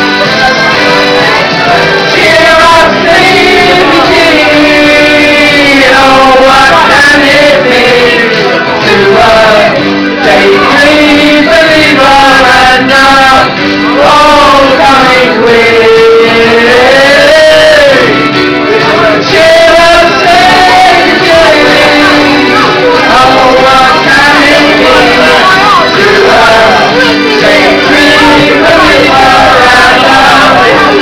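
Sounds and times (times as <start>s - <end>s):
karaoke backing track: 0.0s - 31.0s
man and woman singing duet: 2.1s - 31.0s.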